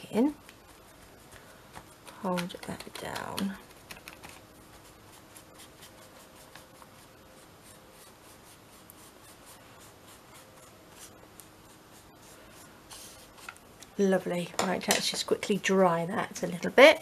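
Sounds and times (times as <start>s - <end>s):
paintbrush rubbing on paper: 0.0s - 13.6s.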